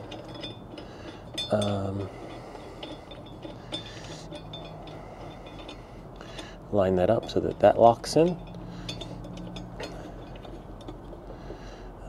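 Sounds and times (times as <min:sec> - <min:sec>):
light metal clinks and taps: 0:00.0 - 0:11.7.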